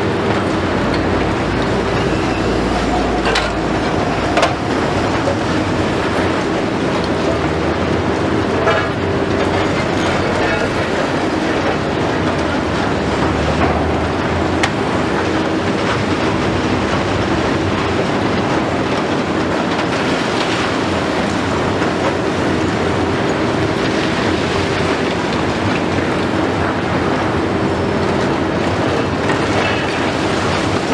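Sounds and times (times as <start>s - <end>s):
excavator diesel and hydraulics humming: 0.0s - 30.9s.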